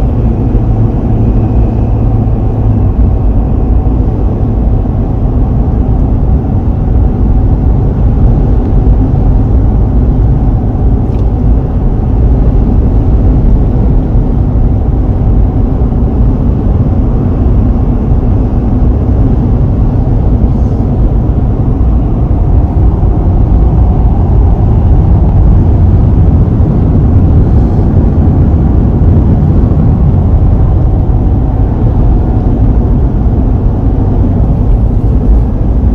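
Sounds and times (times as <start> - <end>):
vehicle cabin road noise: 0.0 - 35.9.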